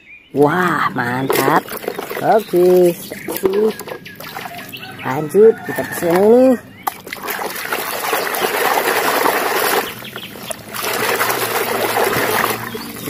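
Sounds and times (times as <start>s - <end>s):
water sloshing and splashing in tub: 0.4s - 13.0s.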